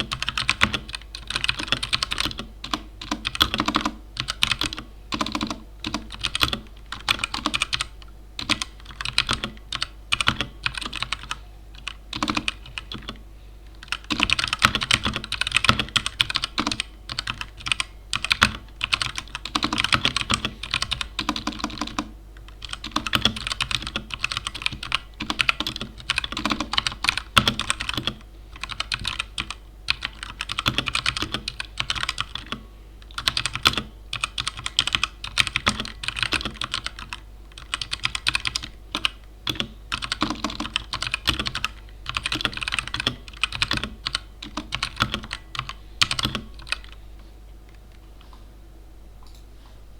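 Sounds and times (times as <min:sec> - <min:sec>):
mechanical keyboard typing: 0:00.0 - 0:47.0.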